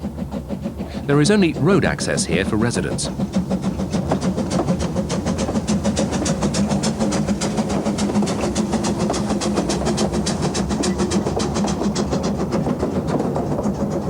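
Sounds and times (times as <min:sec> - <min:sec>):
low running hum: 0:00.0 - 0:14.0
steam locomotive exhaust beating: 0:00.0 - 0:14.0.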